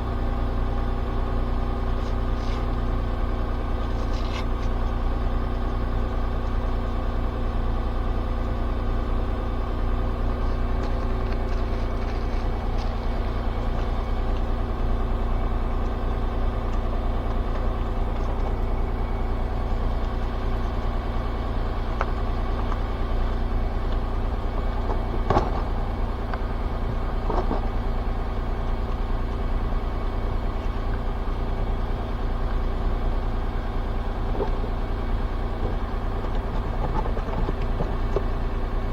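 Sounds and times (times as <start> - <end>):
car engine humming: 0.0 - 38.9.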